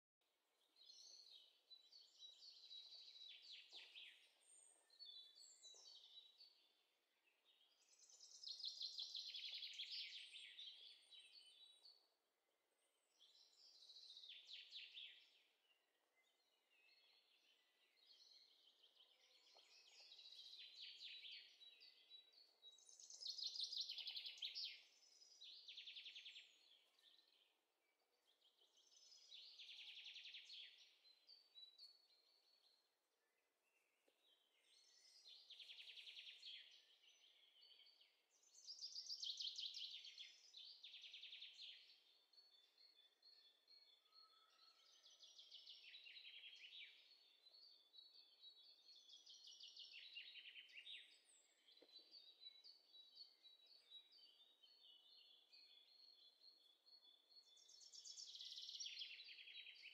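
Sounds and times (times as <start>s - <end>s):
faint trilling bird song: 0.4s - 59.9s.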